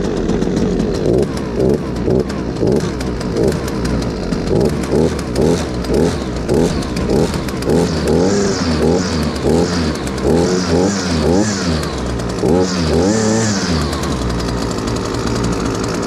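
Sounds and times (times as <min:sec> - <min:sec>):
string trimmer engine revving: 0:00.0 - 0:16.0.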